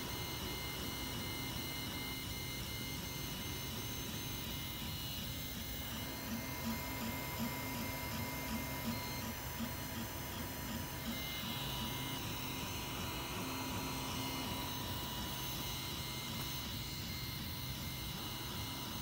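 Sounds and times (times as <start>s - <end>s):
steady hum with high tones: 0.0s - 19.0s.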